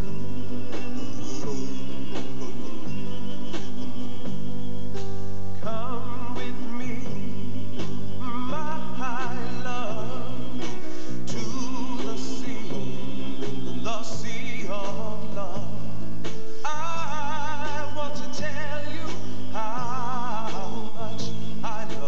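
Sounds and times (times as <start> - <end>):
instrumental accompaniment: 0.0 - 22.0
person singing with vibrato: 0.0 - 22.0.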